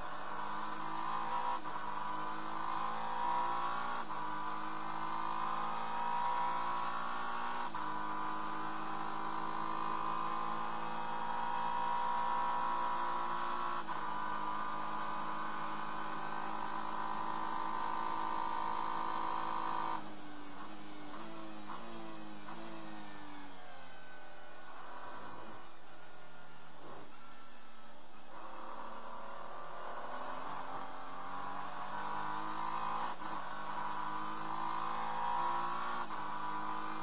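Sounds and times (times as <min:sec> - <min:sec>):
race car engine from cockpit: 0:00.0 - 0:37.0.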